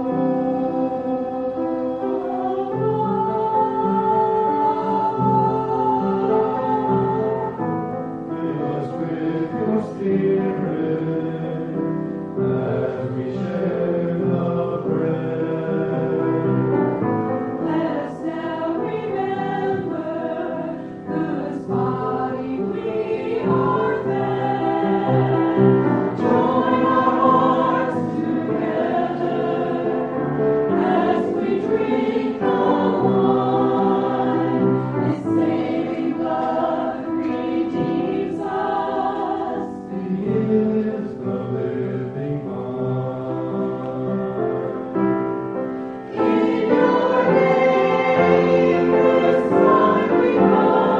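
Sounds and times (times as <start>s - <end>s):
choir singing: 0.0s - 50.9s.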